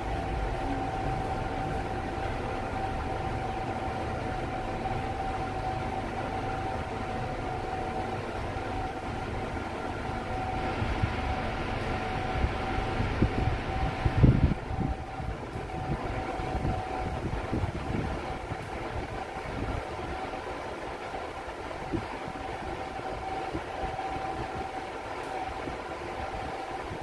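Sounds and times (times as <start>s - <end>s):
constant whine: 0.0s - 27.0s
lift running hum: 0.0s - 27.0s.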